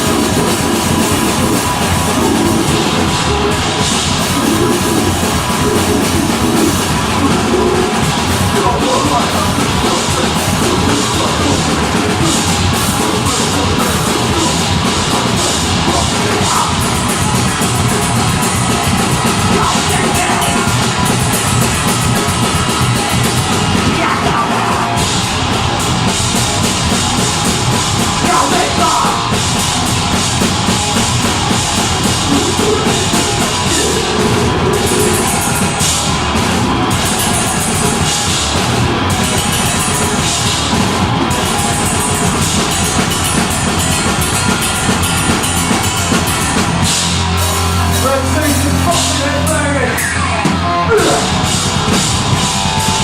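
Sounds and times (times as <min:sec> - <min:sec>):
distorted guitars and bass: 0:00.0 - 0:53.0
fast dense drumming: 0:00.0 - 0:53.0.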